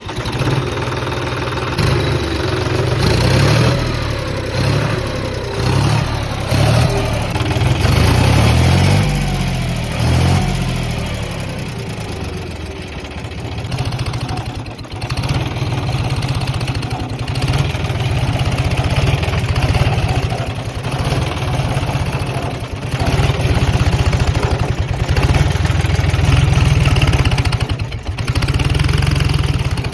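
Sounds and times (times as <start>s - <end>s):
diesel tractor engine revving: 0.0s - 29.9s.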